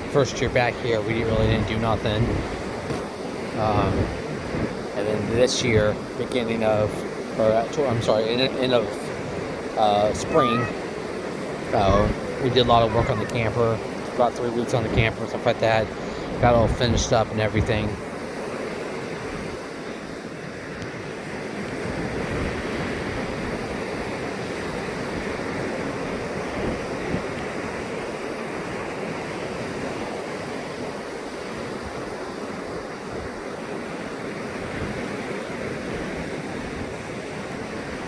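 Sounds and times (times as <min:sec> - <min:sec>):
ocean surf rushing onto beach: 0:00.0 - 0:38.0
wind buffeting microphone: 0:00.0 - 0:38.0.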